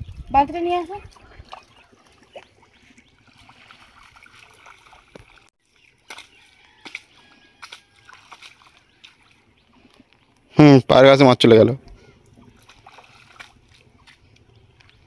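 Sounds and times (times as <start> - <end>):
water trickling and dripping: 0.0 - 10.6, 12.2 - 15.0
small splashes and sloshing: 0.8 - 10.6, 11.9 - 15.0.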